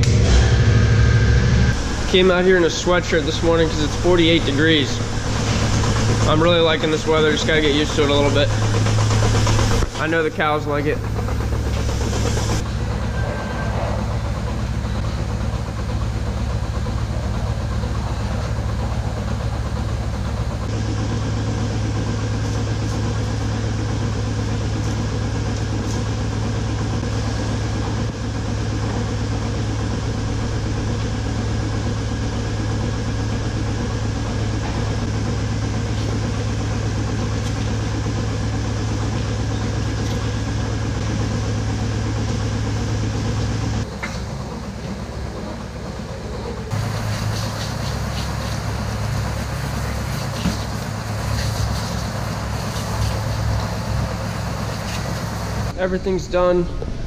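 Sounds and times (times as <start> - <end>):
milking machinery hum: 0.0 - 57.0.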